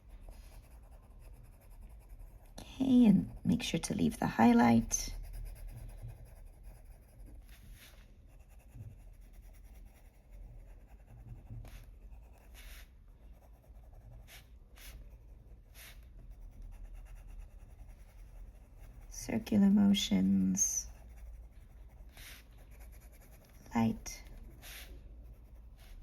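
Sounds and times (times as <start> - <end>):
pencil scratching on paper: 0.0 - 26.0.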